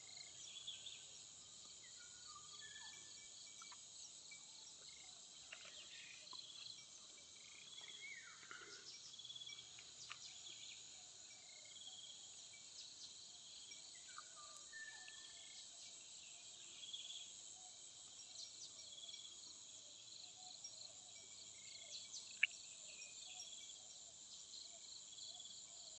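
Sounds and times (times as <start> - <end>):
crickets and insects chirping: 0.0 - 26.0.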